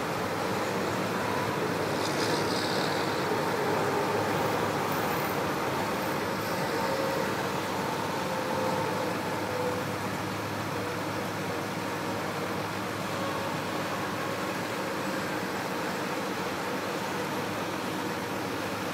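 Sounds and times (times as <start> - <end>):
distant diesel engines droning: 0.0 - 18.8.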